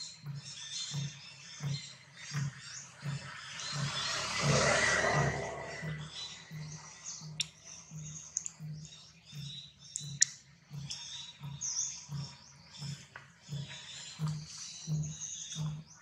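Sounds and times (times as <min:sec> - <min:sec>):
low pulsing: 0:00.0 - 0:16.0
sharp ticks: 0:00.0 - 0:16.0
small birds chirping: 0:00.0 - 0:16.0.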